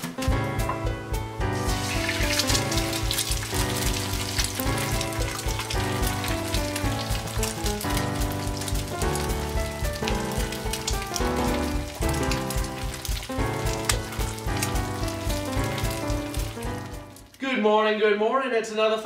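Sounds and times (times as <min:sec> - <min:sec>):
background music with steady beat: 0:00.0 - 0:17.3
egg and bacon sizzling in a pan: 0:01.4 - 0:17.4.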